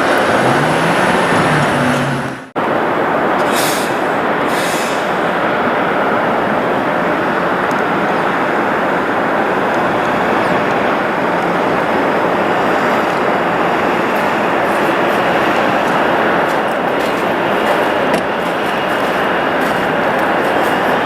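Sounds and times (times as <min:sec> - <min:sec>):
jet airliner engines: 0:00.0 - 0:21.0.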